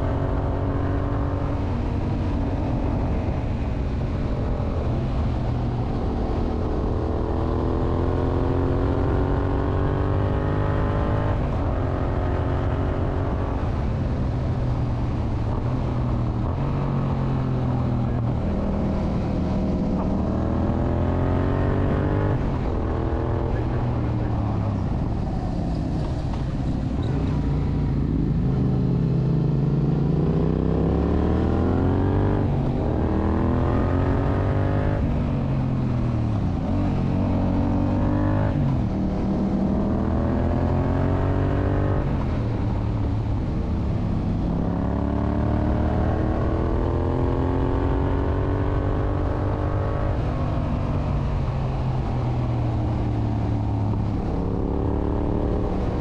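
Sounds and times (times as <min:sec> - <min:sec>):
motorcycle engine accelerating hard: 0:00.0 - 0:56.0.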